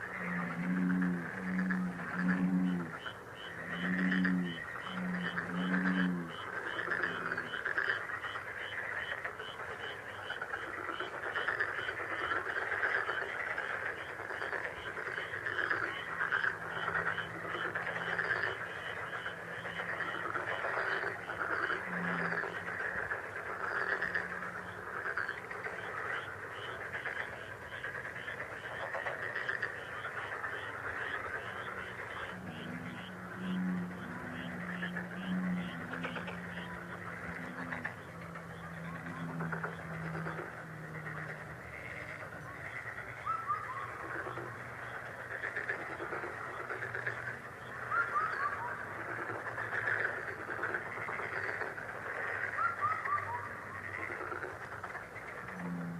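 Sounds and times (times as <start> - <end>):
frogs calling: 0.0 - 55.9
low pitched frog calls: 0.0 - 55.9.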